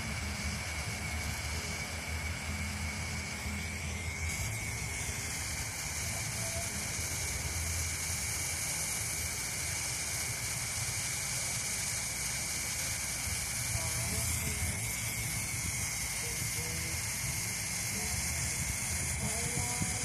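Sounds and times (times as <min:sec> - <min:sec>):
firework stick hissing: 0:00.0 - 0:20.0.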